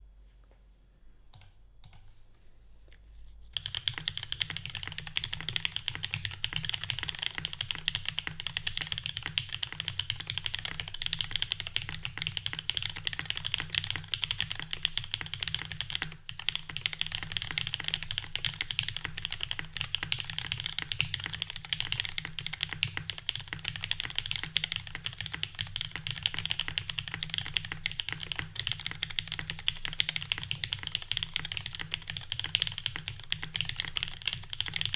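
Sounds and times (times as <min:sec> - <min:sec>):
typing on mechanical keyboard: 0:03.6 - 0:34.9.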